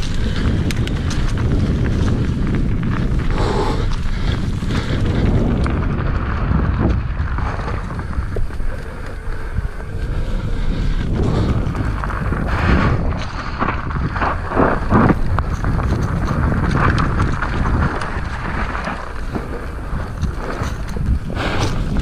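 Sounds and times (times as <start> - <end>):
bike rattling and knocking: 0.0 - 22.0
wind buffeting microphone: 0.0 - 22.0.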